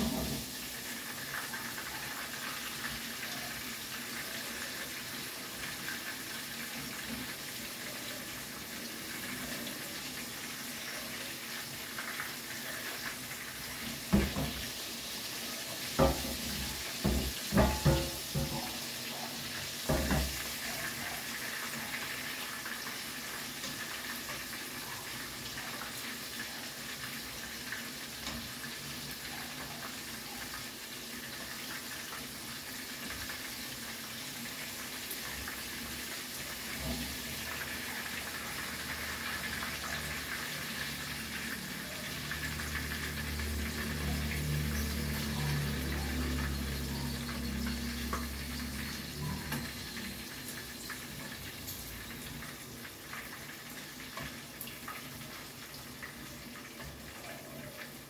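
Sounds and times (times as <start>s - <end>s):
frying in hot oil sizzle: 0.0s - 58.0s.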